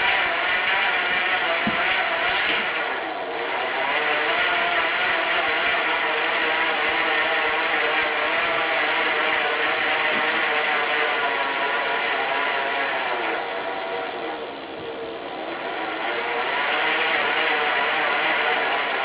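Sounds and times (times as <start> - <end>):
bicycle freewheel hub buzzing: 0.0 - 19.0.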